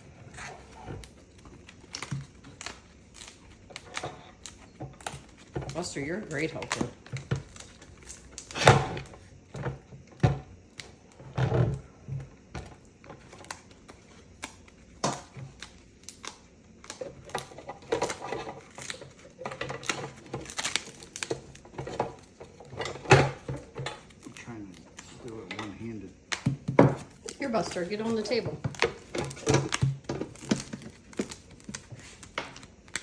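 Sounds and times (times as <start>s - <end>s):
plastic parts clicking and knocking: 0.6s - 33.0s.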